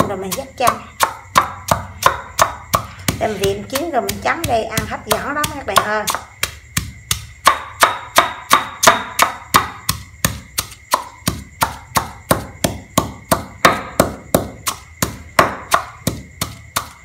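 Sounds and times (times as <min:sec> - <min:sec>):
pestle pounding in stone mortar: 0:00.0 - 0:17.0.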